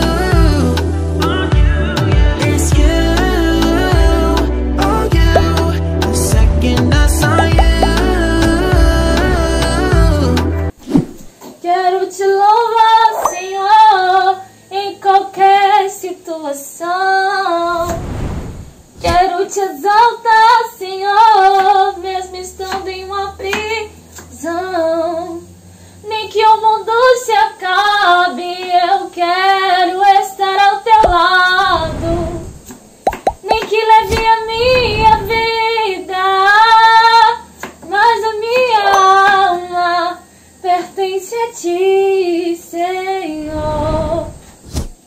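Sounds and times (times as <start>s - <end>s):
woman singing wordless tune: 0.0s - 10.6s, 11.6s - 17.8s, 19.0s - 32.5s, 33.3s - 44.4s.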